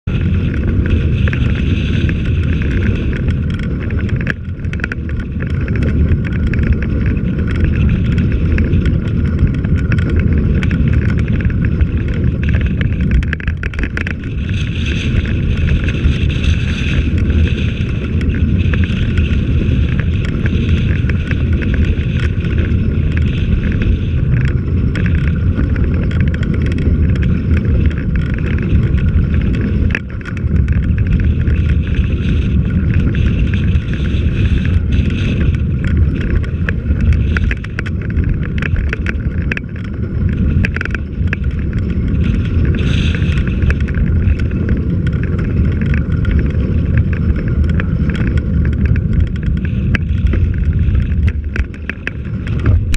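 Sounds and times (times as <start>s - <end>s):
clicks and rattles over rough pavement: 0.0s - 52.9s
wind buffeting microphone: 0.0s - 52.9s.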